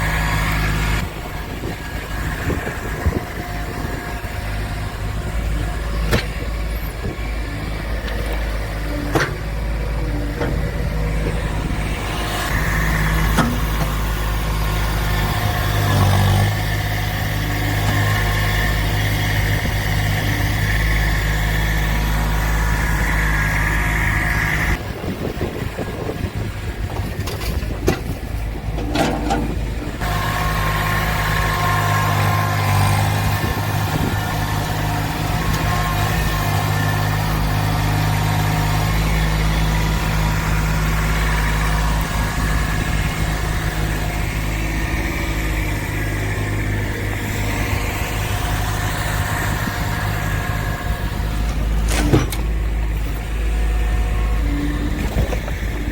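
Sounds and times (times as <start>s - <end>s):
engine knocks: 0.0s - 20.1s, 23.8s - 55.9s
engine running steadily: 0.0s - 55.9s.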